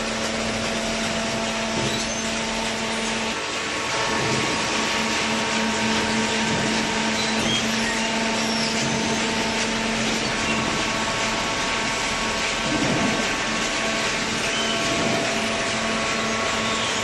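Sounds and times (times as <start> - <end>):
hydraulic baler motor humming: 0.0 - 17.0.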